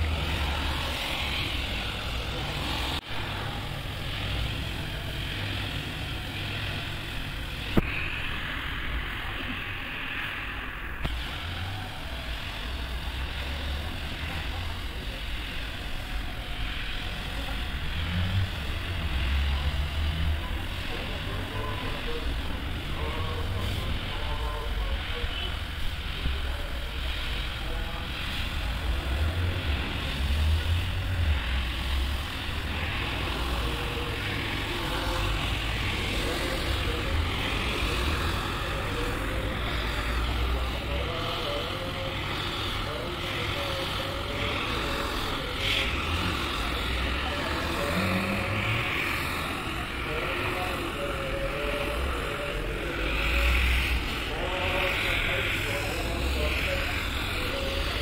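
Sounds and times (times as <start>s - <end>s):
floor machine motor hum: 0.0s - 10.4s, 11.0s - 58.0s.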